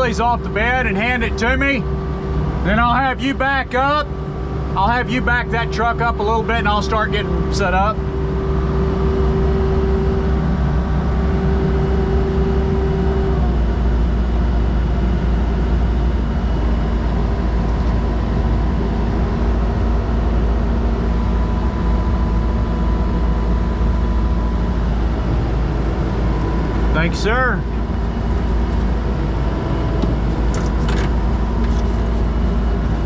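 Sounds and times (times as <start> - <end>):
steady whine: 0.0 - 33.0
truck engine running: 0.0 - 33.0.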